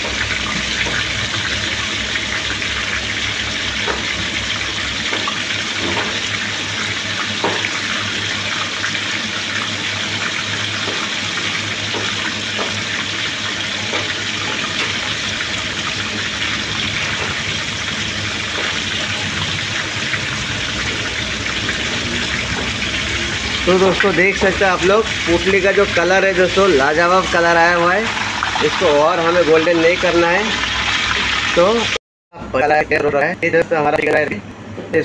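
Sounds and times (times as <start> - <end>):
deep-frying sizzle with crackles: 0.0 - 32.0.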